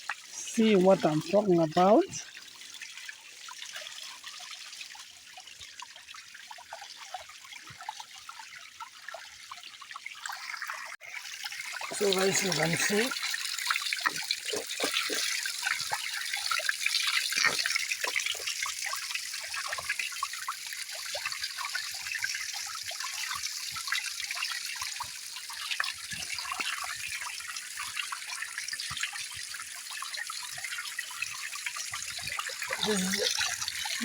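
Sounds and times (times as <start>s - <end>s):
stream water trickling: 0.0s - 34.0s
water splashes and drips: 0.0s - 34.0s.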